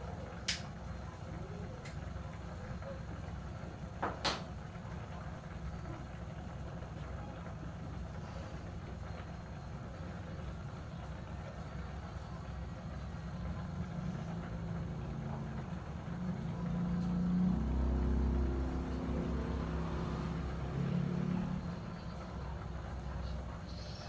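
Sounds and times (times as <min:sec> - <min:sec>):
engine-like hum: 0:00.0 - 0:24.0.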